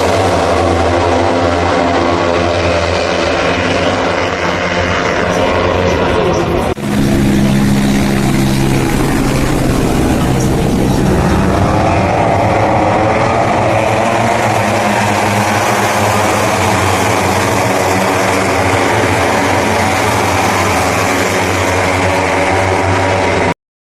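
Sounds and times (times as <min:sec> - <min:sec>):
racing motorcycle engines droning: 0:00.0 - 0:23.5.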